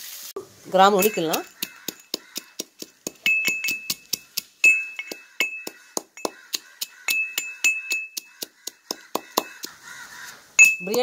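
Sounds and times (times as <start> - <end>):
iron pestle pounding in mortar: 1.0 - 9.9, 10.6 - 11.0.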